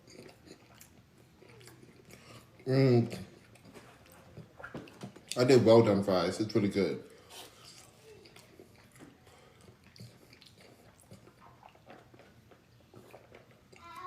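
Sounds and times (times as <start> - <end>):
person chewing food: 0.0 - 5.6, 7.0 - 14.0.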